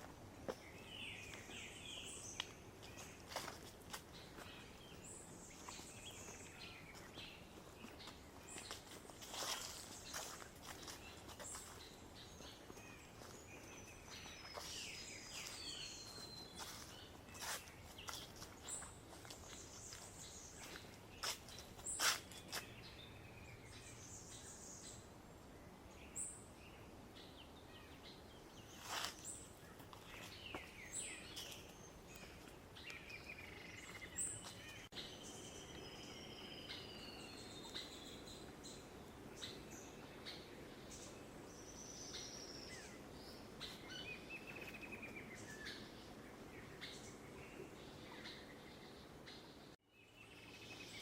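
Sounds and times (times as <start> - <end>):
birds calling and singing: 0.5 - 25.2, 25.9 - 51.0.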